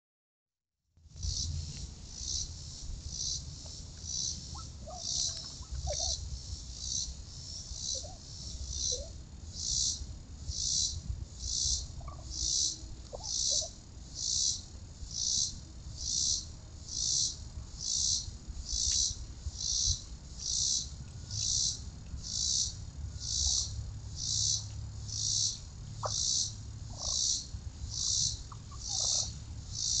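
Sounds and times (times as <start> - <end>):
faint short insect calls: 1.1 - 30.0
insects buzzing chorus: 1.1 - 30.0.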